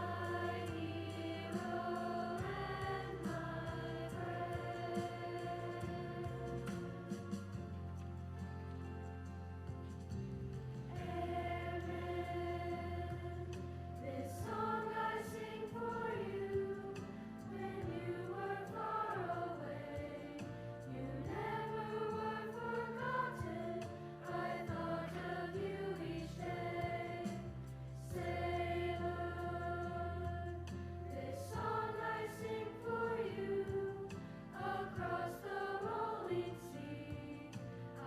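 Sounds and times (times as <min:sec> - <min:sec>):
choir singing: 0:00.0 - 0:08.2, 0:10.9 - 0:38.0.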